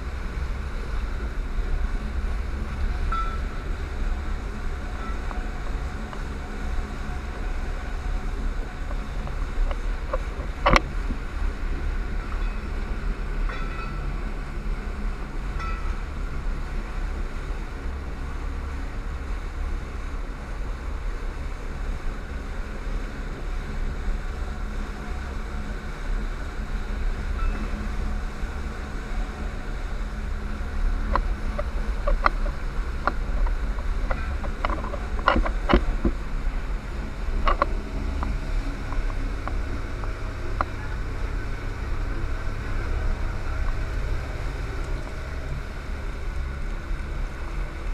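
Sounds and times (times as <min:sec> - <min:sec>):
boat engine rumble: 0:00.0 - 0:47.9
water noise: 0:00.0 - 0:47.9
wind: 0:00.0 - 0:47.9.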